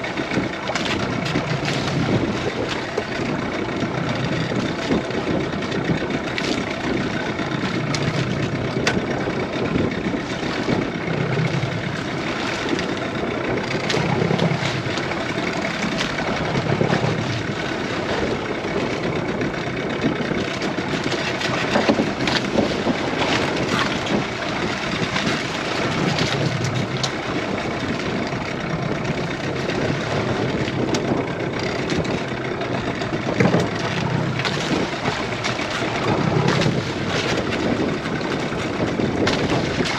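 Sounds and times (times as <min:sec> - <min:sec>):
boat engine idling: 0:00.0 - 0:39.9
water noise: 0:00.0 - 0:39.9
wind noise: 0:00.0 - 0:39.9.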